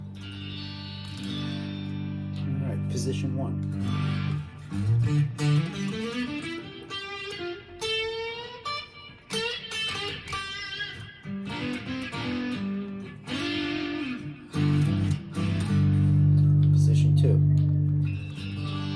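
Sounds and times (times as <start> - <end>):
electric guitar notes and chords: 0.0 - 18.9.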